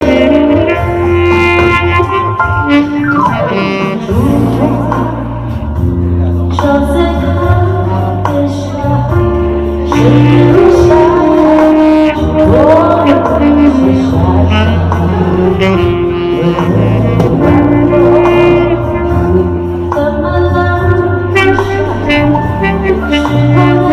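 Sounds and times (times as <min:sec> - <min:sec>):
keyboard: 0:00.0 - 0:23.9
saxophone: 0:00.0 - 0:23.9
steady bass line: 0:00.0 - 0:23.9.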